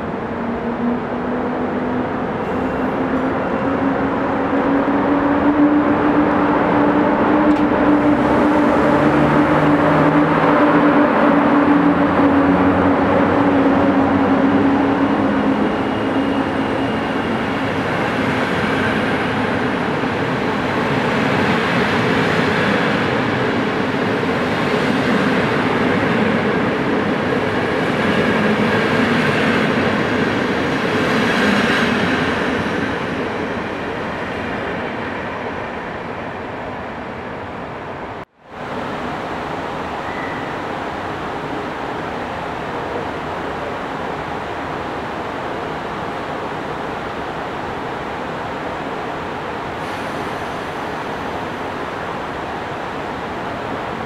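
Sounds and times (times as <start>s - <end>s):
coaches wheel-on-rail noise: 0.0s - 54.0s
electric locomotive hum: 0.0s - 54.0s.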